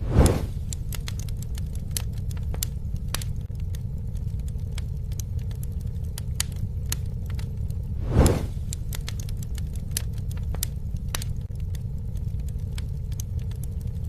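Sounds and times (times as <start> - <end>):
campfire crackling and popping: 0.0 - 14.0
low rumble of flame: 0.0 - 14.0.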